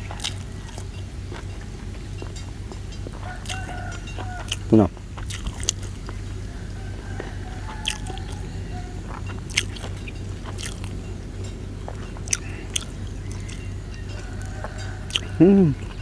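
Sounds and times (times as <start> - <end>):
charred skin crackling: 0.0 - 16.0
chewing: 0.0 - 16.0
steady low hum: 0.0 - 16.0.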